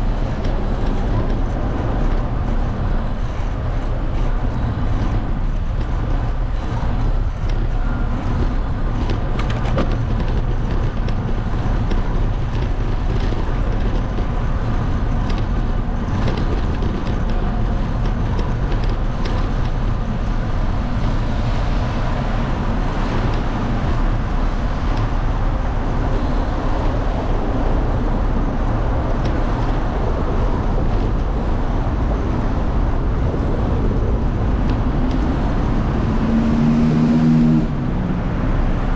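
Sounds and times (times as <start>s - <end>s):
road traffic noise: 0.0s - 38.9s
wind buffeting microphone: 0.0s - 38.9s.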